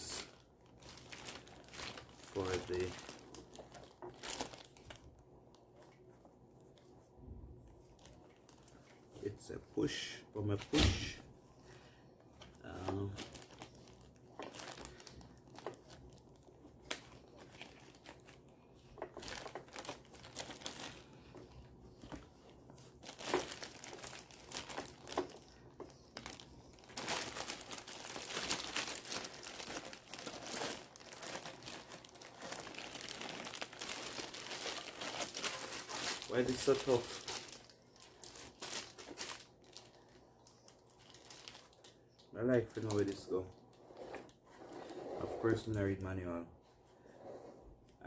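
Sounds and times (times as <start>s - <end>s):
plastic packaging crinkling: 0.0s - 7.0s, 7.7s - 9.1s, 9.8s - 44.5s.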